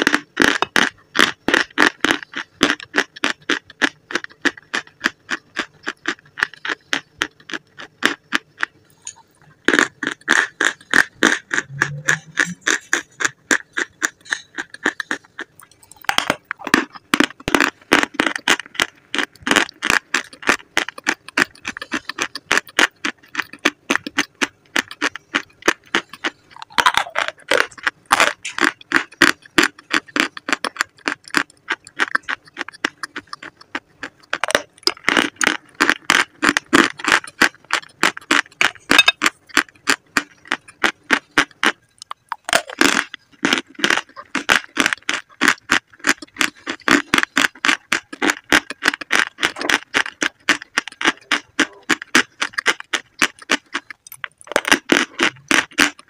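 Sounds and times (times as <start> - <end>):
chewing crunchy chalky chunks: 0.0 - 56.0.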